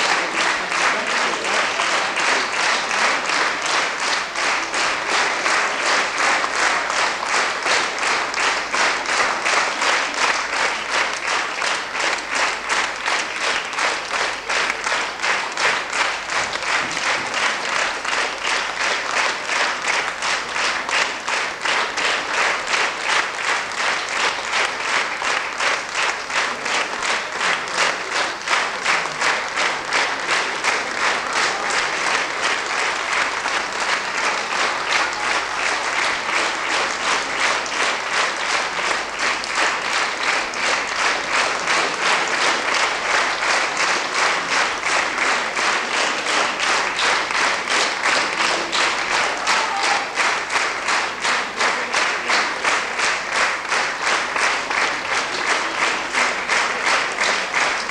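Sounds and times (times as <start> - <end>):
audience clapping in rhythm: 0.0 - 57.9.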